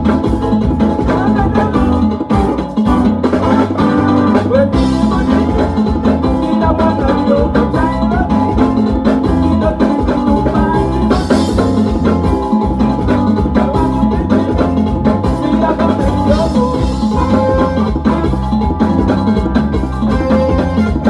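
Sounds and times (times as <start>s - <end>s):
loud music with drum beat: 0.0s - 21.0s.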